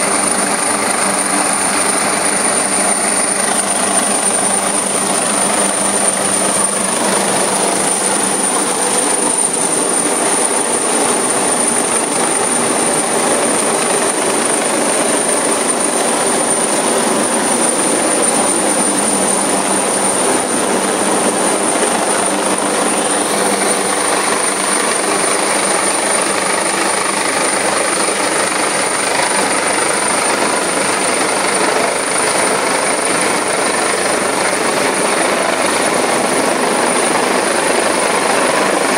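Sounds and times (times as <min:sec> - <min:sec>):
helicopter hovering overhead: 0:00.0 - 0:38.9.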